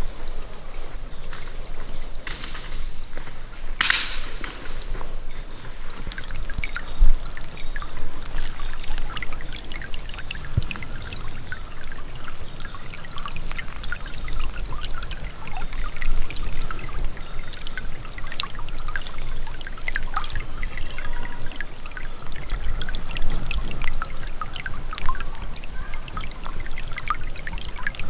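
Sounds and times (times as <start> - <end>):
creek trickling over rocks: 0.0 - 28.0.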